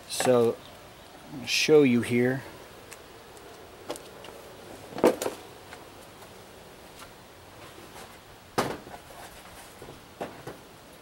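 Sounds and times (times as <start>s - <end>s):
faint background noise: 0.0s - 11.0s.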